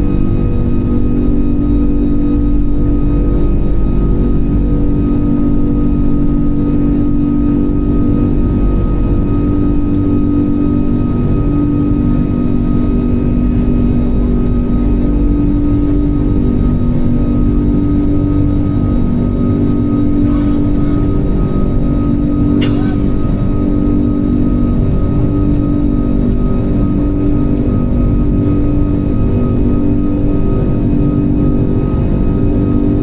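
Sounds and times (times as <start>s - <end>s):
aircraft engine drone in cabin: 0.0s - 33.0s.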